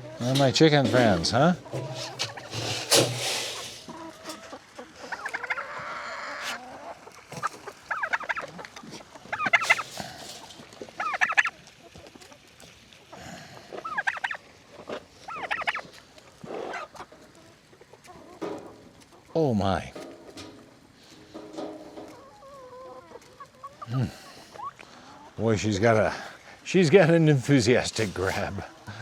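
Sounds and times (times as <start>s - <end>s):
turkey gobbling: 0.0s - 19.3s, 20.0s - 25.4s, 26.0s - 29.0s
chickens clucking: 0.0s - 29.0s.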